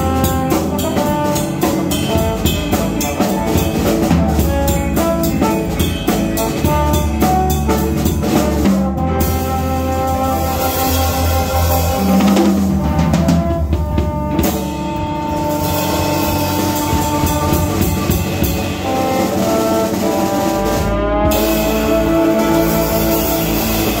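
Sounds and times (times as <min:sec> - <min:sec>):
drum kit: 0:00.0 - 0:24.0
electric bass: 0:00.0 - 0:24.0
electric guitar: 0:00.0 - 0:24.0
trombone: 0:00.0 - 0:24.0.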